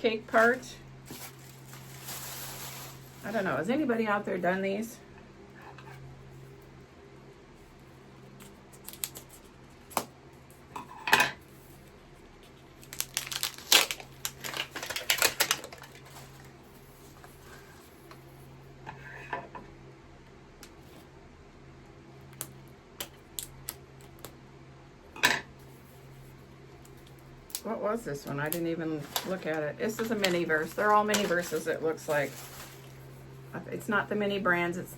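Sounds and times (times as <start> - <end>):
low steady hum: 0.0 - 34.9.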